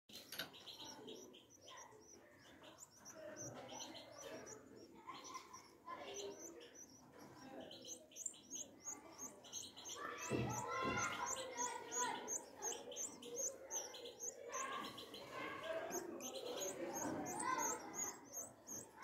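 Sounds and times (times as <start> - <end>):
nestlings chirping for food: 0.1 - 19.0.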